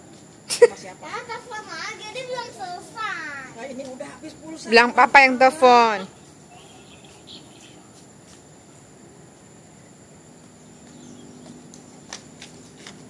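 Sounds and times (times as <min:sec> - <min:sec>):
crickets buzzing: 0:00.0 - 0:13.0.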